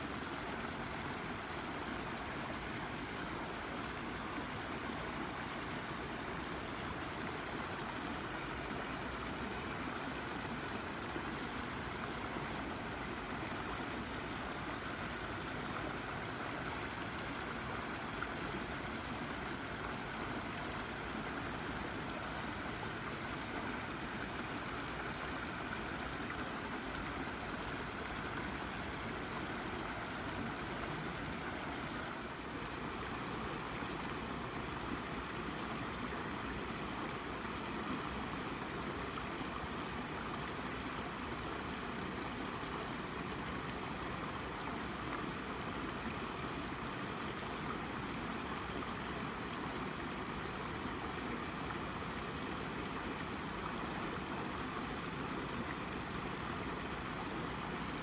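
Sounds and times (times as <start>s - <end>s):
brook water babbling: 0.0s - 58.0s.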